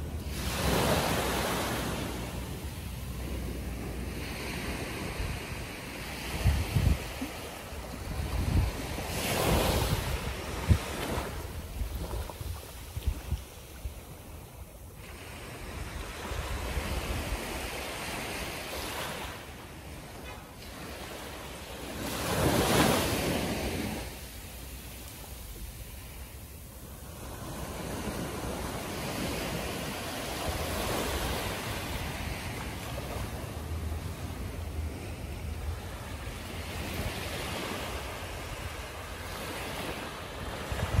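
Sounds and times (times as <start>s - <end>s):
small waves washing on beach: 0.0s - 41.0s.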